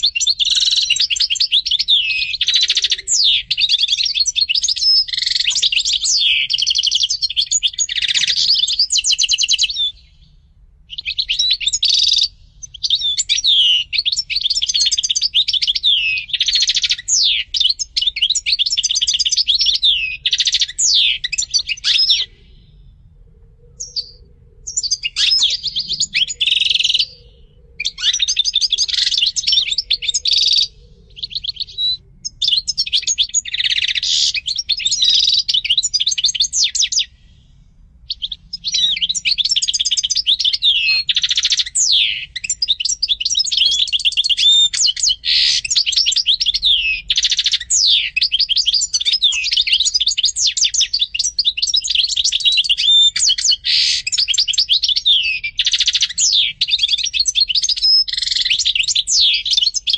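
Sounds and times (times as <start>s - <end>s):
goldfinch singing: 0.0s - 10.3s, 10.9s - 22.3s, 23.8s - 37.2s, 38.1s - 59.9s.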